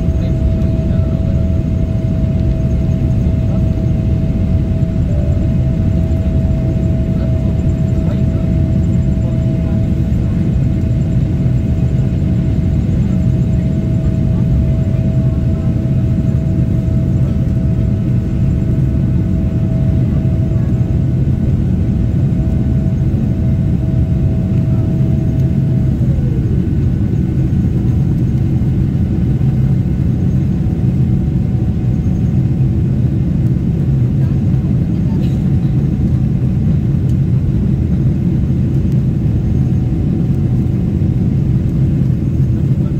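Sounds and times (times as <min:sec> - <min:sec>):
jet engine roar in cabin: 0:00.0 - 0:42.9.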